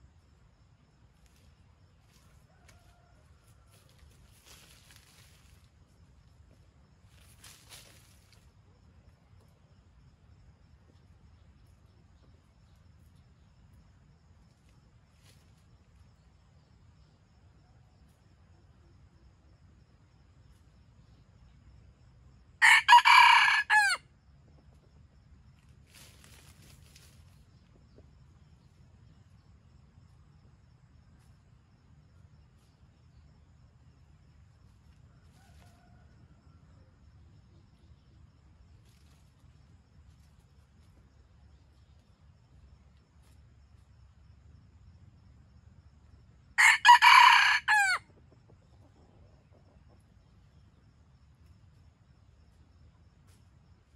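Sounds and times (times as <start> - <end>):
faint insect drone: 0.0 - 53.9.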